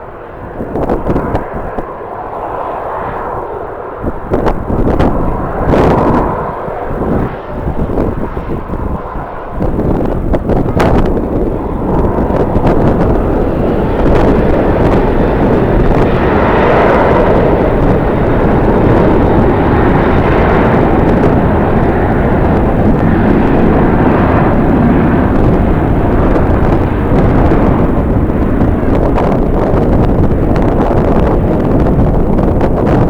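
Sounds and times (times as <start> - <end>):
jet engines running loud: 0.0 - 33.0
wind buffeting microphone: 0.0 - 33.0.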